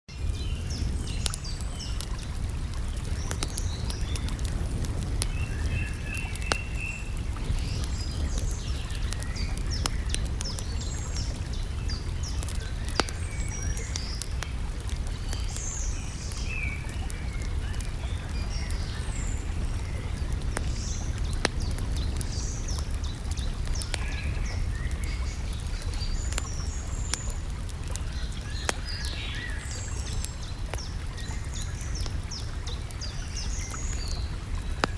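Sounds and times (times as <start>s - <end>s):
rush of lake water: 0.1s - 34.9s
campfire crackling: 0.2s - 34.9s
small birds chirping: 3.0s - 34.9s.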